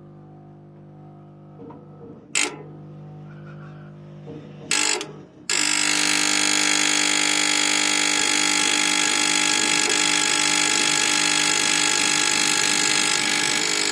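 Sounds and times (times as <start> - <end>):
heater control board buzzing: 0.0 - 13.9.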